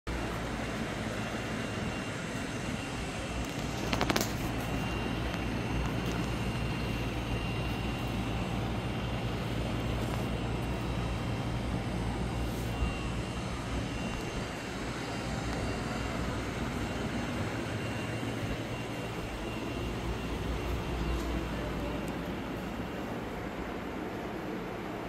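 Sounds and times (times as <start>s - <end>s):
constant low hum: 0.1s - 25.0s
low rumbling background noise: 0.1s - 25.0s.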